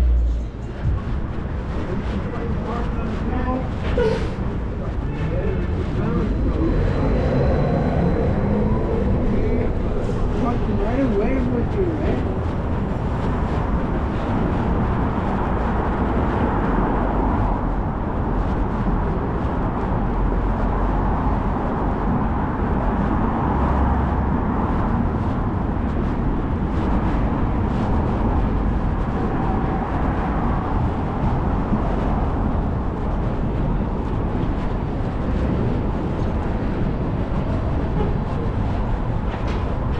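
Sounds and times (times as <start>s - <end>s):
constant low rumble: 0.0s - 39.9s.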